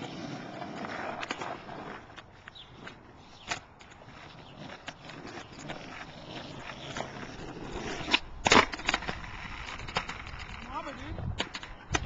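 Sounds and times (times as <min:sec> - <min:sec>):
skateboard rolling: 0:00.0 - 0:12.0.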